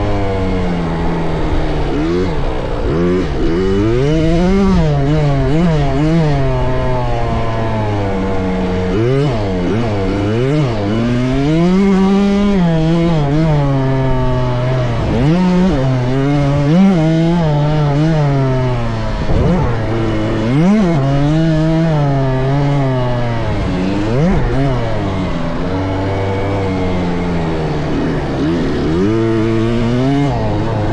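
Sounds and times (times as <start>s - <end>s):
two-stroke motocross bike revving: 0.0s - 30.9s.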